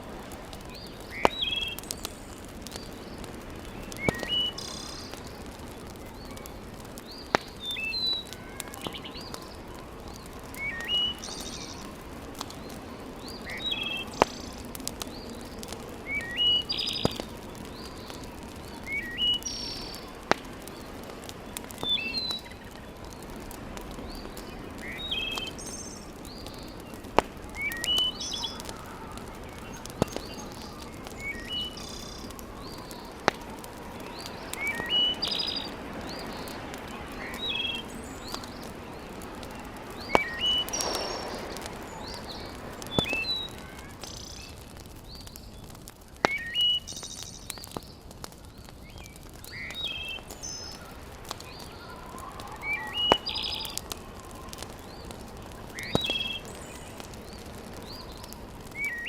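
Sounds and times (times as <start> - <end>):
wood fire pops: 0.0 - 59.0
songbird chirping: 0.6 - 45.3, 48.4 - 54.0.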